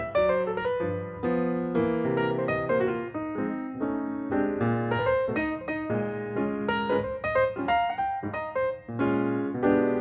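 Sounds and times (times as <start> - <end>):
piano melody: 0.0 - 10.0.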